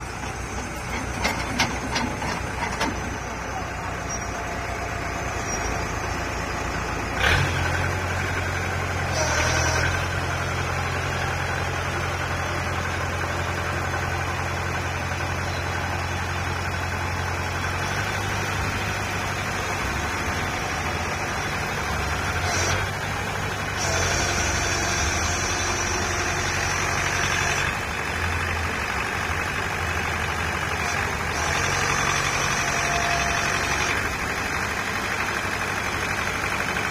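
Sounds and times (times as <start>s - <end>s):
drilling rig diesel engine running: 0.0s - 36.9s.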